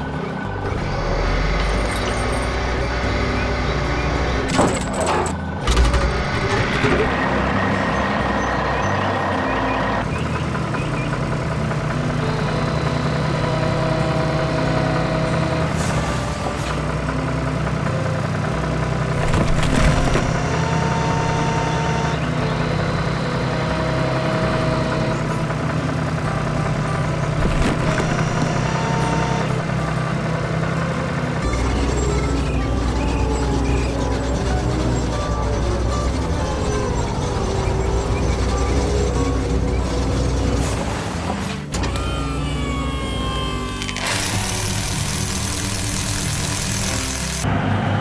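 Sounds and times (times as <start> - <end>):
diesel engine drone: 0.0 - 48.0.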